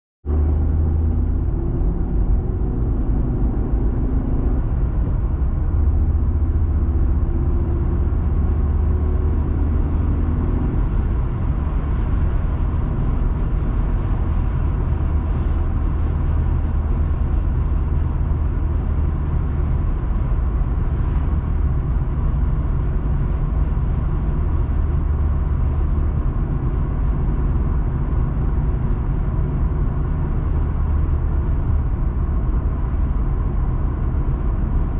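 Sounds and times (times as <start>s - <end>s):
car interior road rumble: 0.3s - 34.9s.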